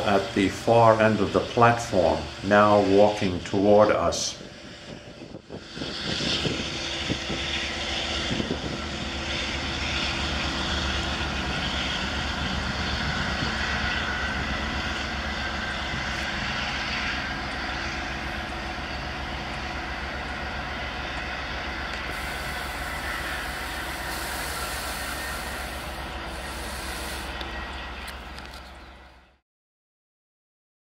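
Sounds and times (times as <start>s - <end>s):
diesel locomotive engine: 0.0s - 29.4s
rail noise: 0.0s - 29.4s.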